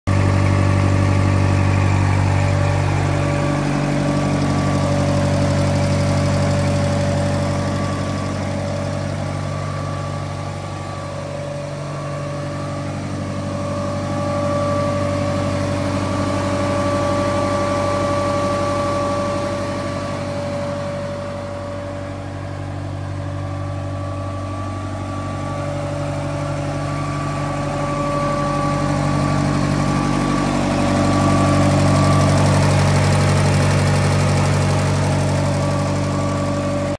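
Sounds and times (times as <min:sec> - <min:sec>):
skid loader engine idling: 0:00.1 - 0:36.9.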